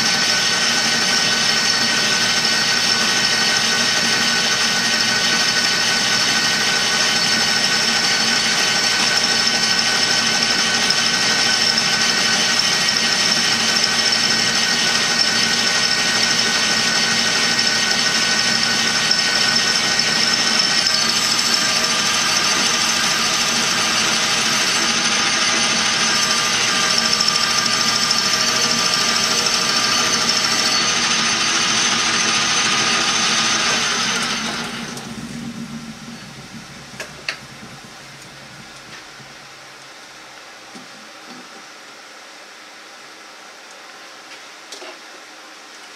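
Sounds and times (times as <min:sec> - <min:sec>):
metal lathe machine whine: 0:00.0 - 0:40.4.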